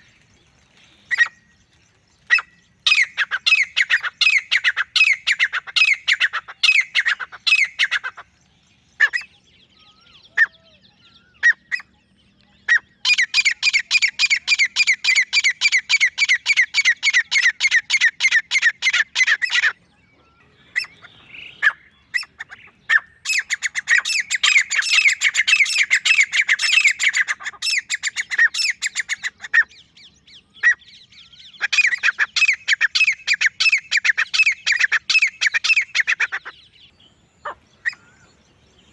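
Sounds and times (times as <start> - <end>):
francolin calling: 2.2 - 8.4, 12.6 - 38.9.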